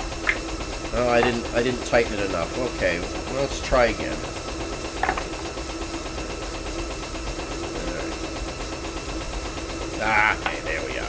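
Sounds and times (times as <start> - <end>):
workshop hum: 0.0 - 11.0.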